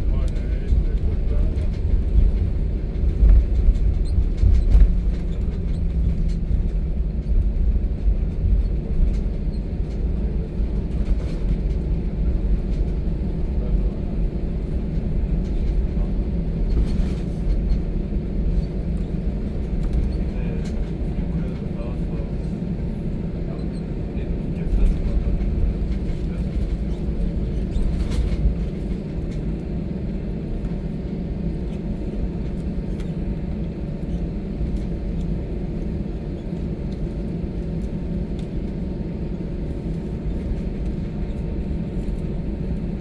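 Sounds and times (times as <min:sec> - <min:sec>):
airliner engines rumbling: 0:00.0 - 0:43.0
wheels rolling on taxiway: 0:00.0 - 0:43.0.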